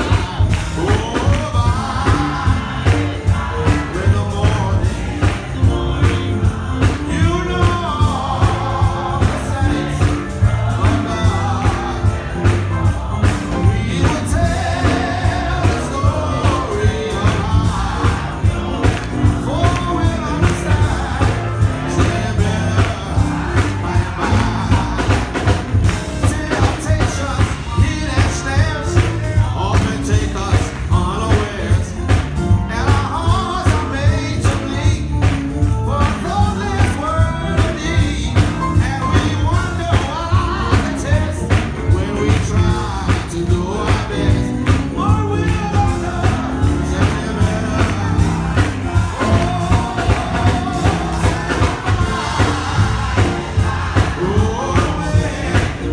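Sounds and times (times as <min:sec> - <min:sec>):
live gospel music: 0:00.0 - 0:55.9
steady drum beat: 0:00.0 - 0:55.9.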